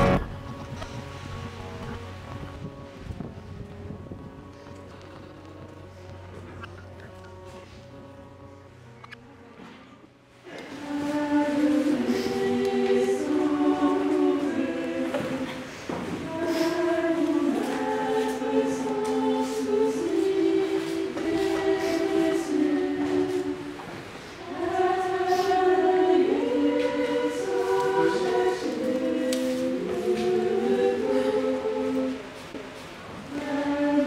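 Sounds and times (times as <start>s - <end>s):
choir singing unaccompanied: 0.0s - 9.7s, 10.4s - 34.0s.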